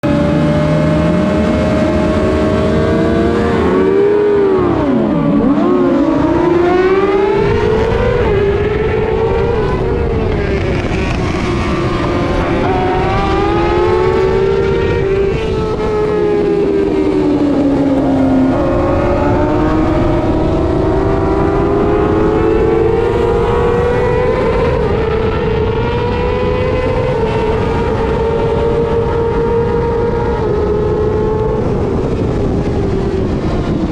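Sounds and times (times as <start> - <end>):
constant rush of noise: 0.0 - 33.9
motorcycle engine revving: 0.0 - 33.9.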